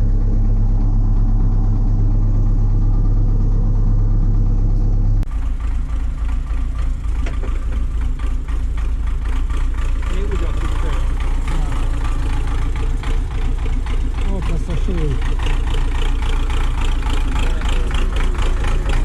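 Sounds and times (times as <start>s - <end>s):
rough clattering engine: 0.0s - 19.0s
tractor engine idling: 0.0s - 19.0s.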